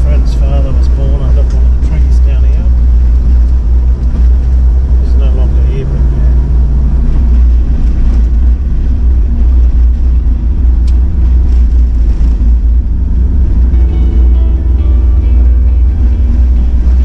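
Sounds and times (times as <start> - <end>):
tyres rumbling on gravel: 0.0 - 14.5
engine drone: 0.0 - 17.0.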